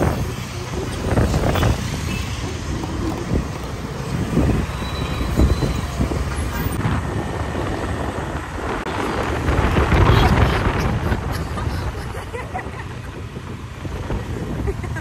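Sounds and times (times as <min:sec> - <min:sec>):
city road traffic: 0:00.0 - 0:15.0
wind rushing over microphone: 0:00.0 - 0:15.0.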